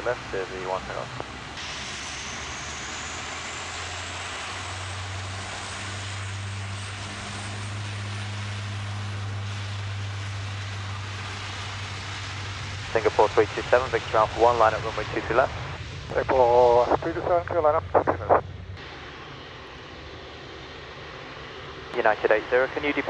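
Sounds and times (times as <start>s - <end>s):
faint rising whine: 0.0s - 23.0s
turboprop engine roar: 0.0s - 23.0s.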